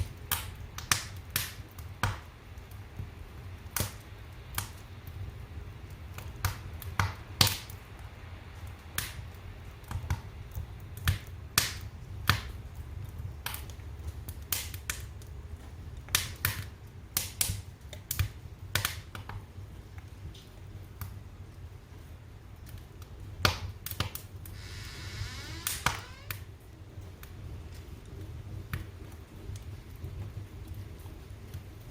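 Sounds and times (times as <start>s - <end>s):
fire crackling: 0.0s - 31.9s.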